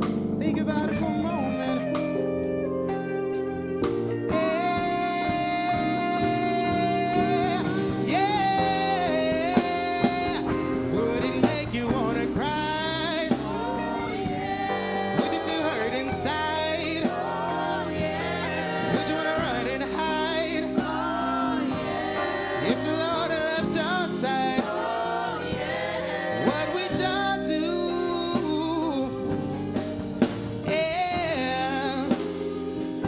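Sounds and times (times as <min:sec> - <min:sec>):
man singing gospel: 0:00.0 - 0:02.1, 0:04.0 - 0:29.6, 0:30.6 - 0:33.0.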